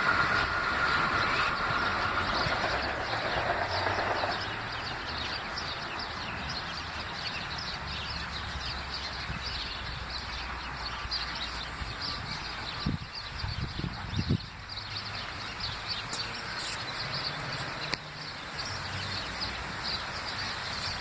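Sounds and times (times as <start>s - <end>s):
birds chirping: 0.0s - 21.0s
electric train whine and rumble: 0.0s - 21.0s.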